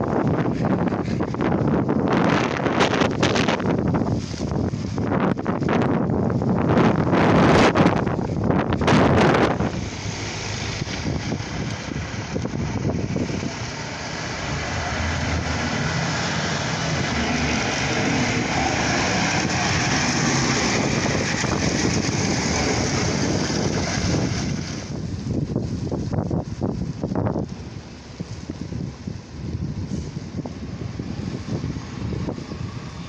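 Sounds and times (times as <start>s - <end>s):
blizzard wind rushing: 0.0s - 33.0s
wind buffeting microphone: 0.0s - 33.0s.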